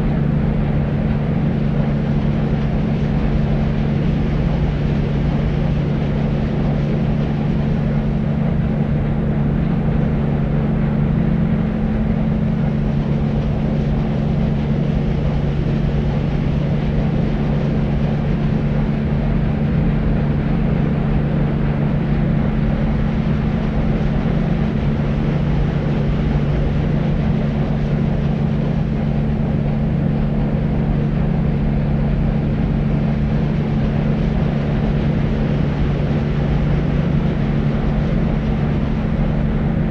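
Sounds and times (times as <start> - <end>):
deep white noise: 0.0 - 39.9
steady low hum: 0.0 - 39.9.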